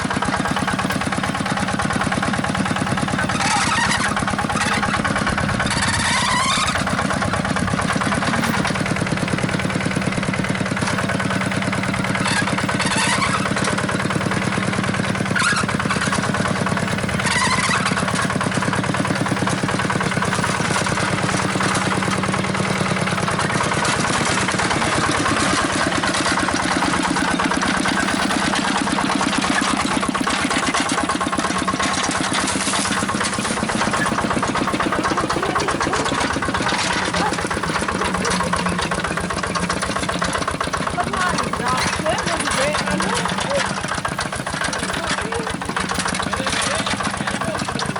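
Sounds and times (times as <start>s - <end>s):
small engine puttering: 0.0s - 47.9s.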